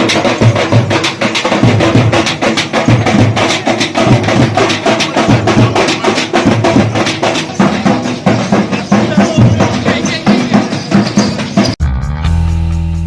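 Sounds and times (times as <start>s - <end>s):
fast loud drumming: 0.0s - 11.9s
music: 0.0s - 13.0s.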